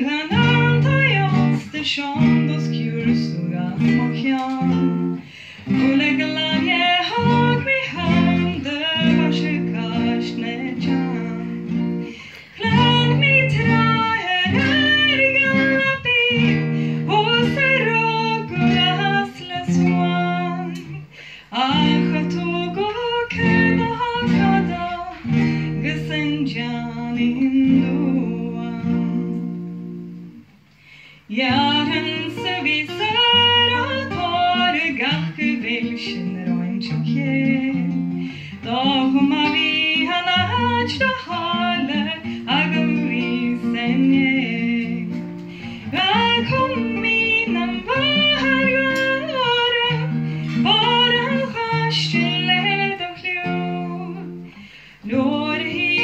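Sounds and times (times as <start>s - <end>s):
woman singing: 0.0s - 30.4s, 31.0s - 56.0s
acoustic guitar: 0.0s - 56.0s.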